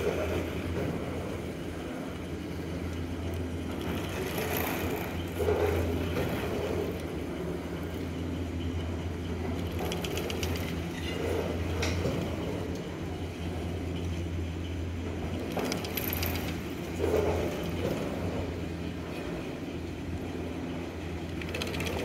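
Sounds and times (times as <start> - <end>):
chairlift machinery humming: 0.0 - 22.0
chairs clicking through terminal: 0.0 - 22.0.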